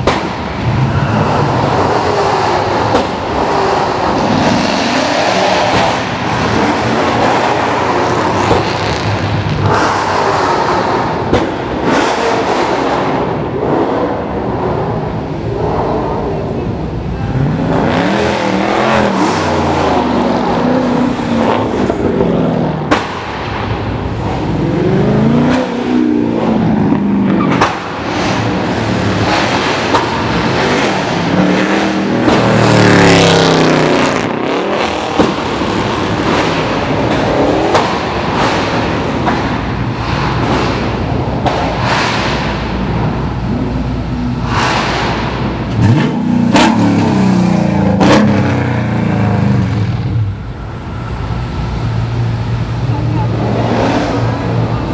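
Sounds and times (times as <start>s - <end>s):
cars revving past: 0.0s - 54.9s.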